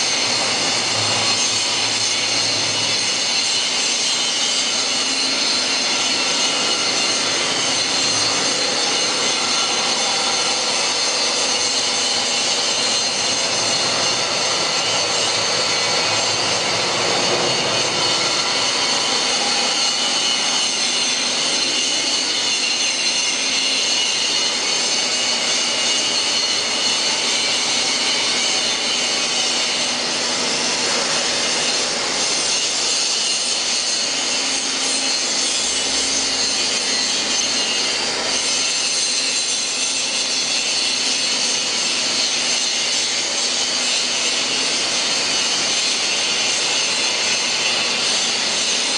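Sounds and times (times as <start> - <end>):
high constant whining tones: 0.0 - 48.9
machinery drone: 0.0 - 48.9.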